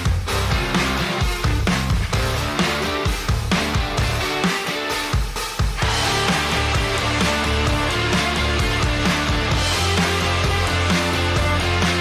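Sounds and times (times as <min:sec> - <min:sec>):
rock music with drums and guitar: 0:00.0 - 0:12.0.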